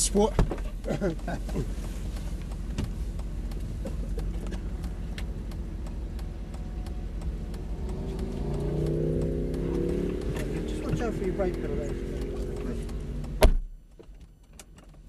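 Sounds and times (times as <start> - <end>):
car engine idling: 0.0 - 15.0
light clicks and knocks: 0.2 - 15.0.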